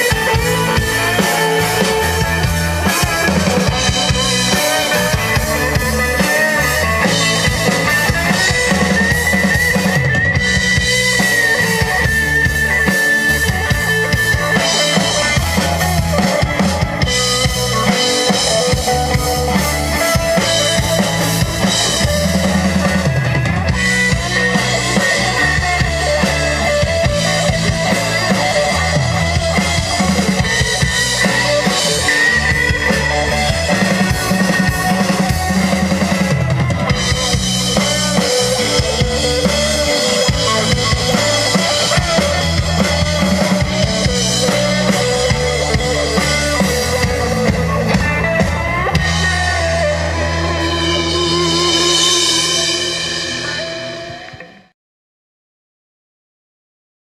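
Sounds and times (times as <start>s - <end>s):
drum kit: 0.0s - 54.7s
rock band instrumental: 0.0s - 54.8s.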